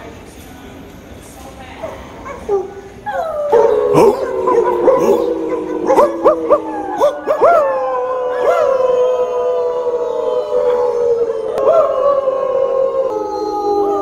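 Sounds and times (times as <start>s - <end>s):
people howling like wolves: 2.5s - 14.0s.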